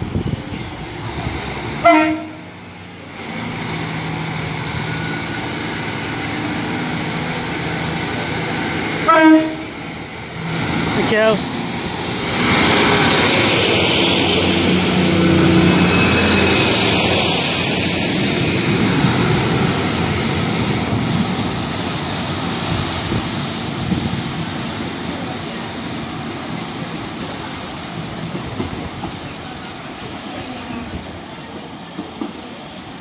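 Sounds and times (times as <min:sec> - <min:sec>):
diesel train engines pulling away: 0:00.0 - 0:33.0.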